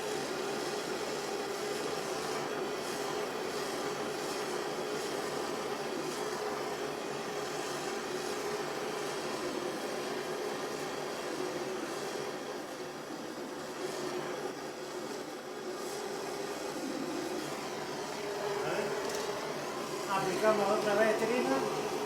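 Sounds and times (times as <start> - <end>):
blowlamp hissing: 0.0 - 22.0.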